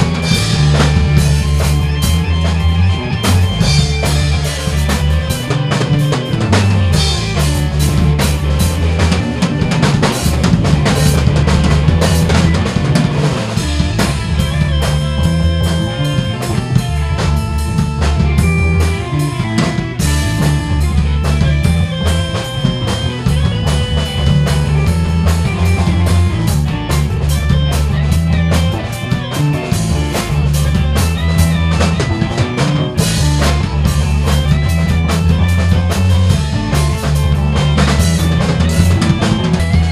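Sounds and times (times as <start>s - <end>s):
drum kit: 0.0s - 39.9s
electric bass line: 0.0s - 39.9s
keyboard chords: 0.0s - 39.9s.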